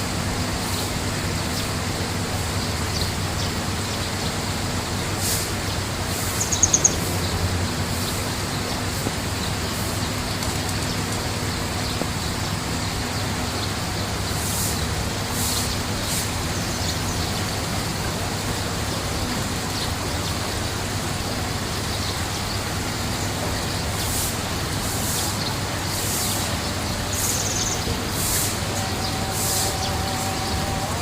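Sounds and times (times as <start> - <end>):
water running into pond: 0.0 - 31.0.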